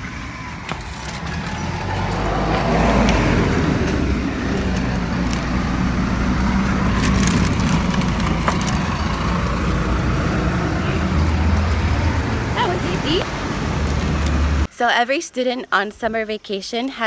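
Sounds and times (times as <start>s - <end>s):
vehicle engine humming: 0.0s - 14.7s.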